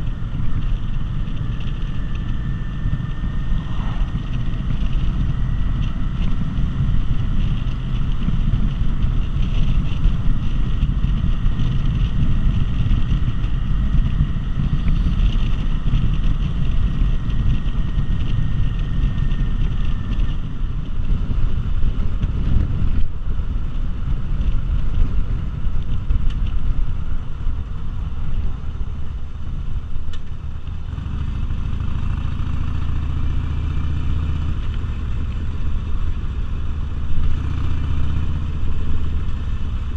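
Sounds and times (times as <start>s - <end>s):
motorcycle engine running: 0.0s - 39.9s
wind and road rush: 0.0s - 39.9s.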